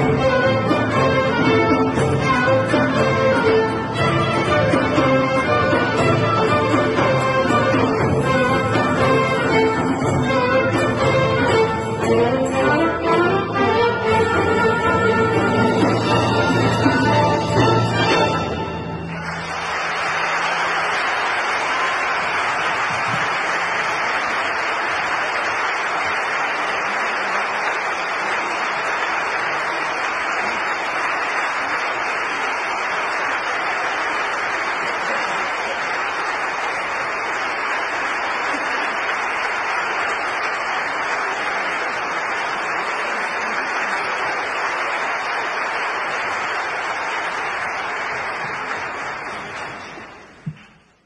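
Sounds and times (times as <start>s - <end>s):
audience clapping: 0.0s - 51.0s.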